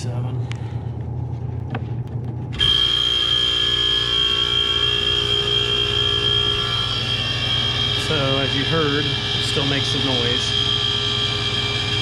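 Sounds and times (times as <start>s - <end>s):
freezer compressor running: 0.0s - 12.0s.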